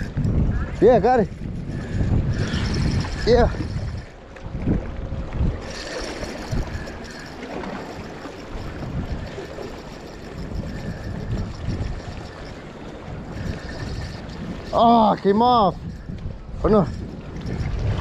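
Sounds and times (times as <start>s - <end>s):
waves lapping against rocks: 0.0s - 18.0s
wind rumbling on microphone: 0.0s - 18.0s.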